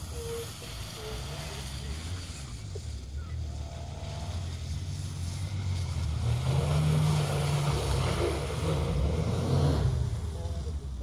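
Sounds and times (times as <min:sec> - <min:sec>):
off-road vehicle engine accelerating: 0:00.0 - 0:11.0.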